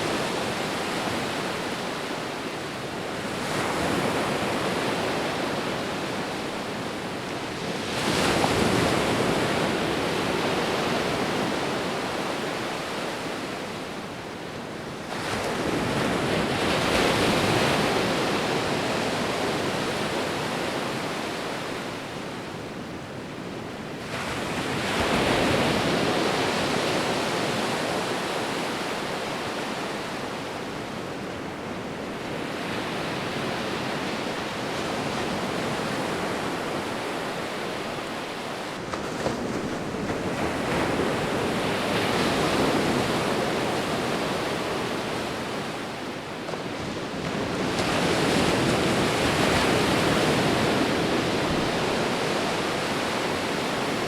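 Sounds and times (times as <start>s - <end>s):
ocean waves on shore: 0.0s - 54.0s.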